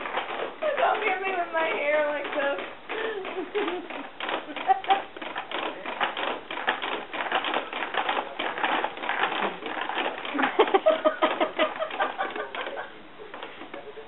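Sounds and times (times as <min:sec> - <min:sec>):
baby jumper clicking and rattling: 0:00.0 - 0:13.6.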